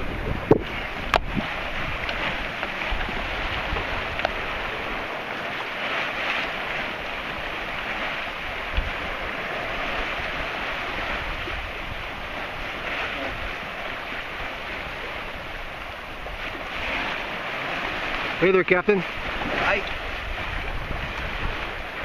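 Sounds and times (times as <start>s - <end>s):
water rushing along a hull: 0.0s - 22.0s
wind buffeting microphone: 0.0s - 22.0s.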